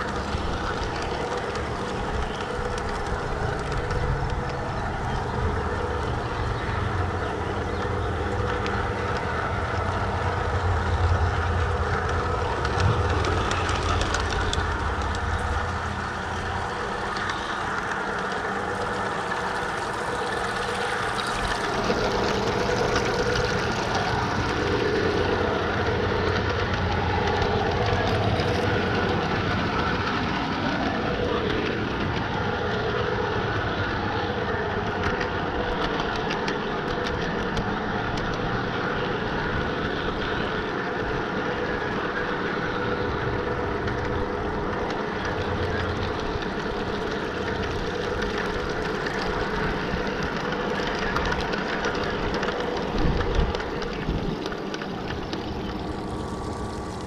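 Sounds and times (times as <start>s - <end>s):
model train wheels on rails: 0.0s - 57.0s.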